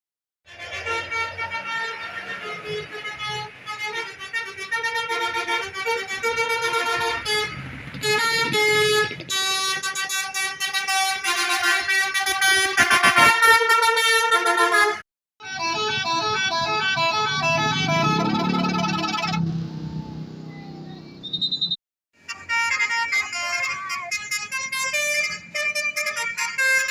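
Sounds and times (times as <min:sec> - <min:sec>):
multi-tone horns playing tune: 0:00.5 - 0:19.4, 0:22.3 - 0:26.9.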